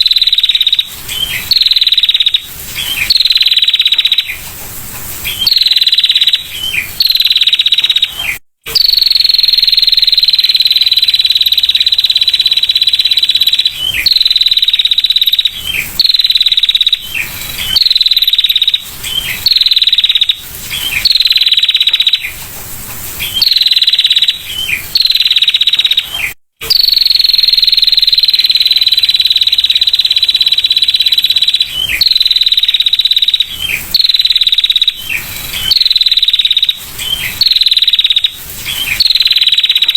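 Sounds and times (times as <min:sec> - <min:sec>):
bird high-pitched trill: 0:00.0 - 0:04.4, 0:05.2 - 0:22.4, 0:23.2 - 0:39.9.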